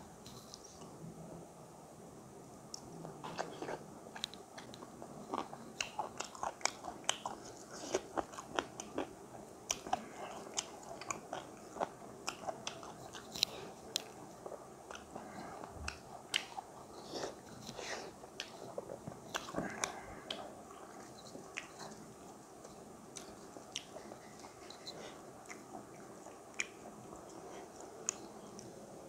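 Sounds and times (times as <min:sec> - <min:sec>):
chewing with wet mouth smacks: 0:03.2 - 0:28.8.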